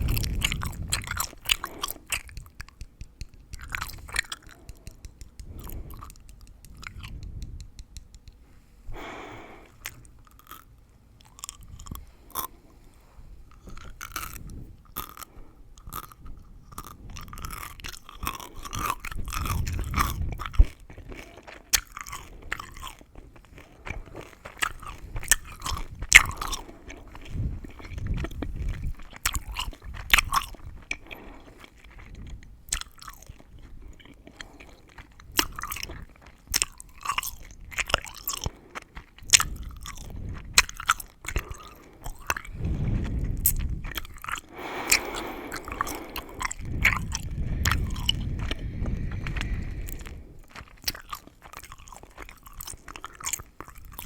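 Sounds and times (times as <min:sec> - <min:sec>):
gum crackling and clicking: 0:00.0 - 0:08.4, 0:09.0 - 0:12.6, 0:13.5 - 0:54.0
soft chewing: 0:00.0 - 0:54.0.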